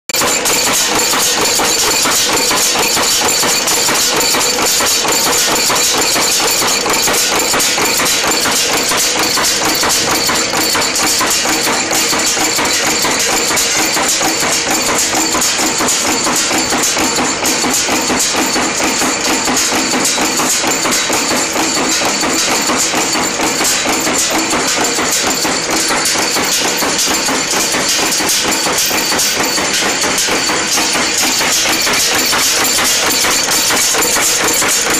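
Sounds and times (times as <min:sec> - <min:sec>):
nail making machine clattering: 0:00.1 - 0:34.9.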